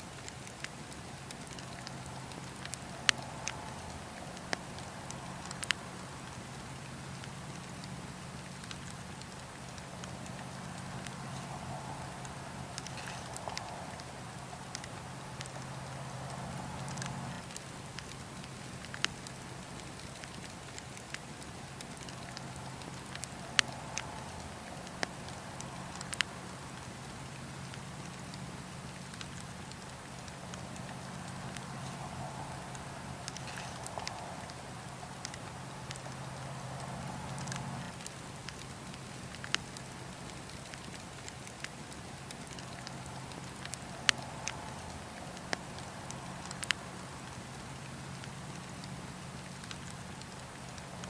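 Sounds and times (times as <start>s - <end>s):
campfire crackling: 0.0s - 51.0s
fire rumble and hiss: 0.0s - 51.0s.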